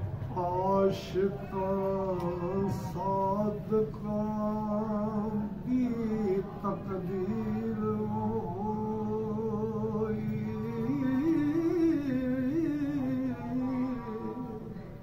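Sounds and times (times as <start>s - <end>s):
man singing unaccompanied: 0.3s - 15.0s.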